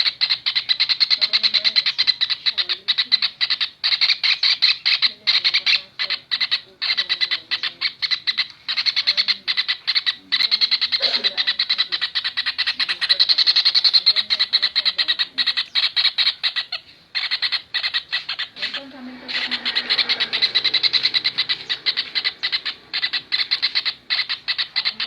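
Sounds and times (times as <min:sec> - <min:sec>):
kingfisher chattering trill: 0:00.0 - 0:25.0.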